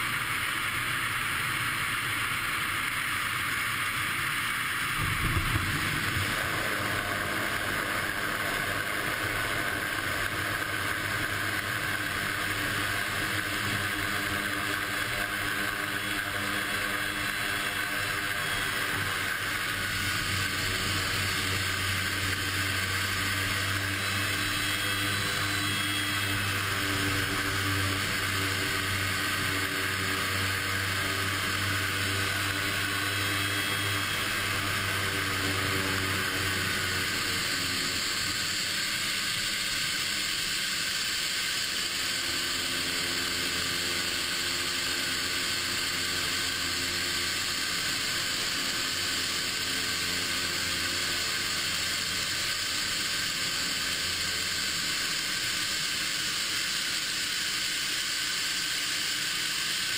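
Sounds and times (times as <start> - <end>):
loud rushing hiss: 0.0 - 13.5, 15.8 - 59.9
aircraft engine hum: 0.0 - 59.9.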